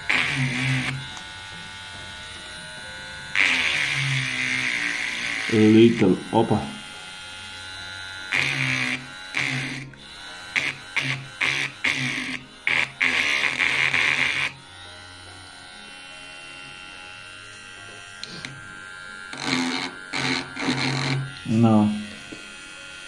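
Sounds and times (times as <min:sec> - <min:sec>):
rotary tool drilling: 0:00.0 - 0:23.0.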